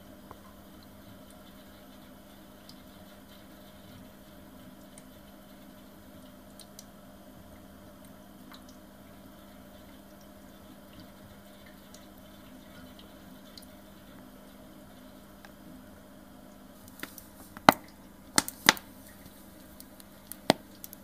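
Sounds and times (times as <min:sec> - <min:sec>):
drip-like ticks: 0:00.2 - 0:15.6, 0:16.5 - 0:21.0.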